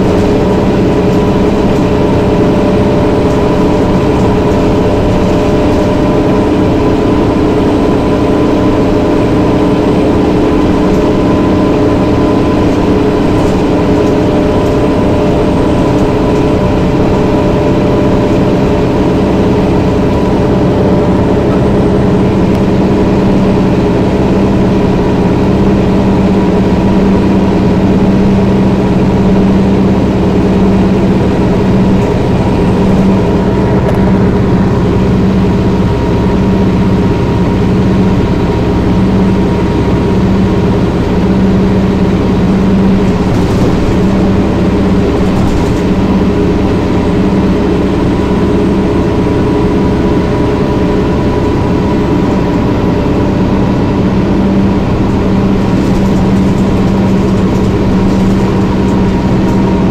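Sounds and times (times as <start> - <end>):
diesel bus engine droning: 0.0 - 59.9.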